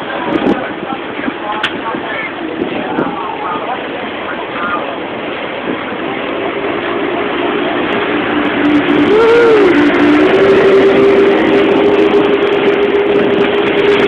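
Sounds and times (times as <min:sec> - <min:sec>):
boat engine running: 0:00.0 - 0:14.0
rushing water: 0:00.0 - 0:14.0
wind noise: 0:00.0 - 0:14.0.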